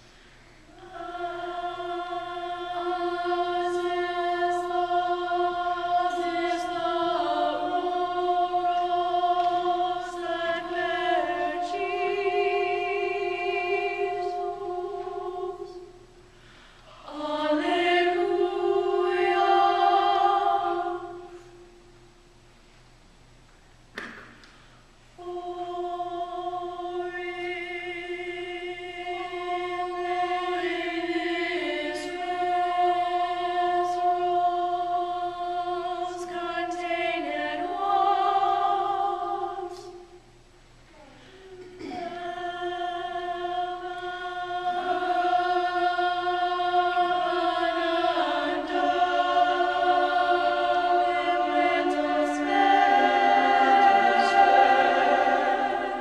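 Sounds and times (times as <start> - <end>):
mixed choir singing chords: 0.0 - 22.3, 25.1 - 40.4, 41.4 - 56.0.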